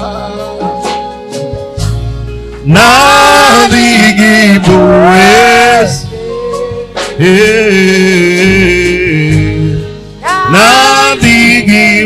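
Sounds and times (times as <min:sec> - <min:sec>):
gospel singing: 0:00.0 - 0:12.0
instrumental accompaniment: 0:00.0 - 0:12.0.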